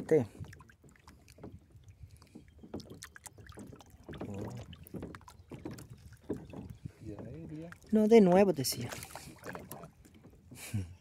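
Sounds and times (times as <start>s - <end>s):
light clicks and knocks from boat: 0.0s - 11.0s
water lapping: 0.0s - 11.0s.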